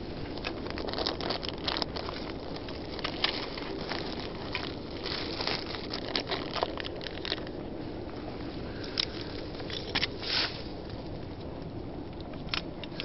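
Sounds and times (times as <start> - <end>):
dry leaves crunching underfoot: 0.0 - 11.2
low background noise: 0.0 - 13.0.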